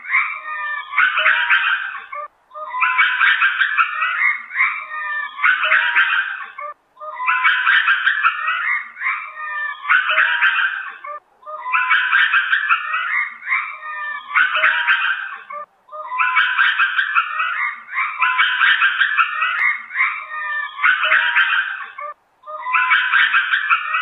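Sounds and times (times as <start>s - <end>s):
lemurs calling: 0.0s - 24.0s.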